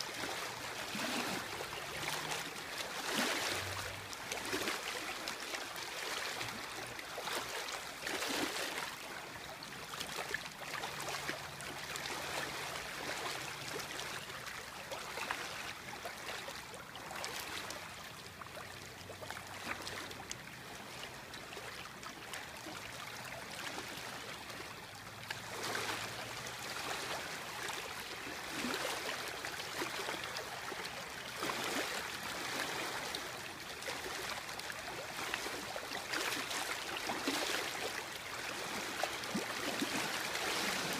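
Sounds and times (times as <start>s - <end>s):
waves lapping at water's edge: 0.0s - 40.9s.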